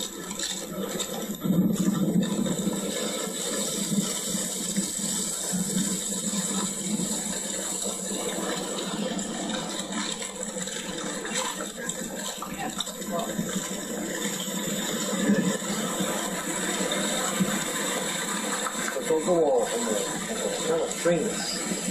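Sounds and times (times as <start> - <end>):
meltwater rushing through ice: 0.0 - 21.9.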